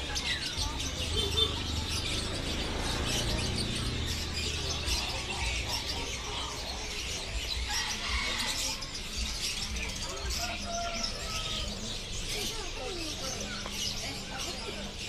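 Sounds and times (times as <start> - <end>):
caged songbirds chirping: 0.0 - 15.0.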